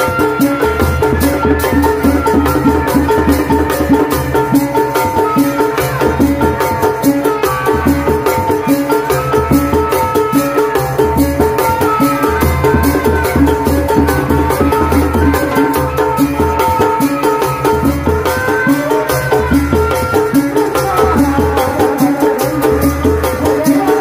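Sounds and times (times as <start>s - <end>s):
fast dense drumming: 0.0s - 24.0s.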